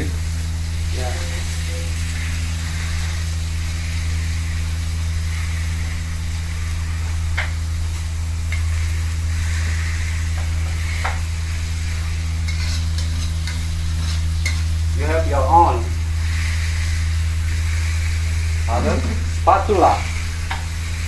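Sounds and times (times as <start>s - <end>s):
meat sizzling in a wok: 0.0s - 21.0s
steady low hum: 0.0s - 21.0s
spatula scraping wok: 1.3s - 21.0s.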